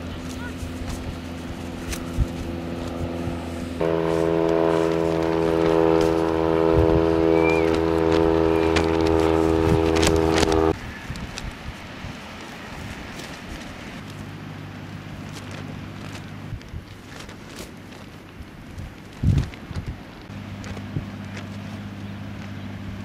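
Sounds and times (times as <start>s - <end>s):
propeller aircraft engine droning: 0.0s - 10.8s, 13.8s - 19.2s, 19.9s - 23.0s.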